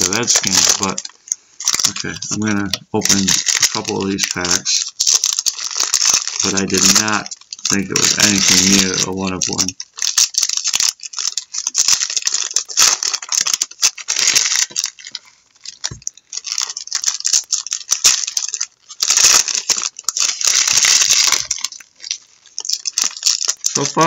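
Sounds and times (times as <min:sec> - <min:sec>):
cards being shuffled: 0:00.0 - 0:24.0
foil wrappers crinkling and tearing: 0:00.0 - 0:24.0.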